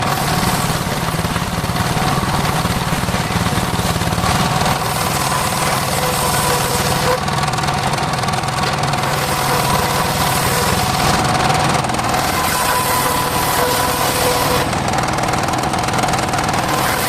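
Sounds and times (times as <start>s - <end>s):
pulsing engine note: 0.0s - 17.0s
spinning saw blade whine: 0.0s - 17.0s.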